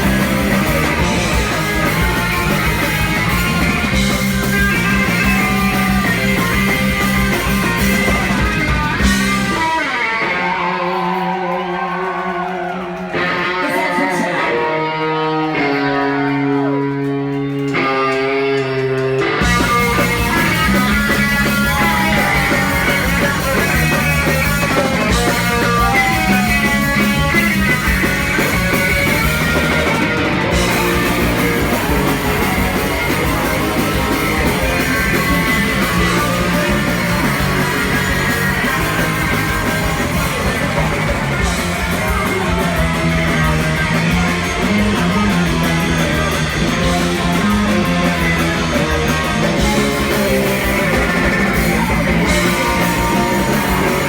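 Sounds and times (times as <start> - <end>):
punk rock band playing live: 0.0 - 54.0.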